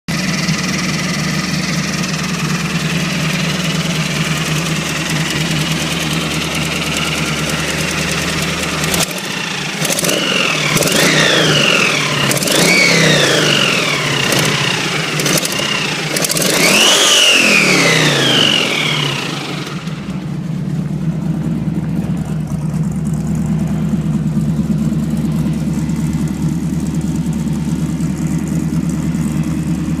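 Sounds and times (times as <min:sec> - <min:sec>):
car engine idling and revving: 0:00.1 - 0:30.0.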